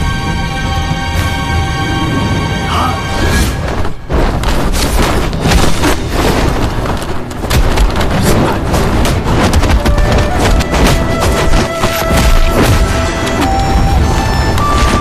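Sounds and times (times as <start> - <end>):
film score music: 0.0 - 15.0.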